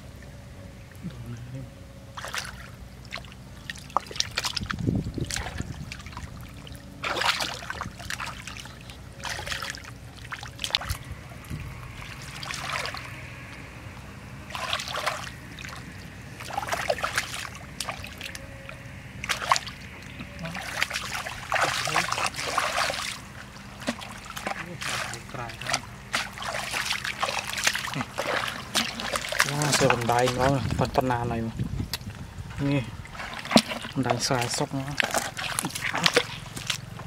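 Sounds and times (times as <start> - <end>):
muddy water sloshing: 0.0 - 37.0
hands squelching through wet mud: 2.2 - 13.7, 14.5 - 31.0, 31.9 - 37.0.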